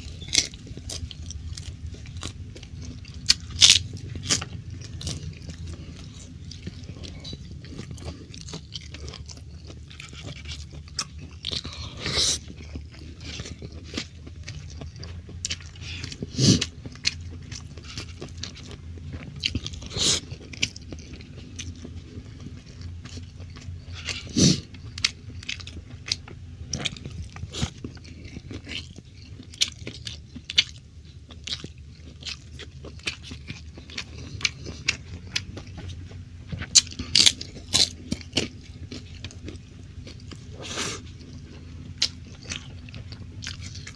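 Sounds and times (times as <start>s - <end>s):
low steady hum: 0.0s - 43.9s
person chewing food: 0.0s - 43.9s.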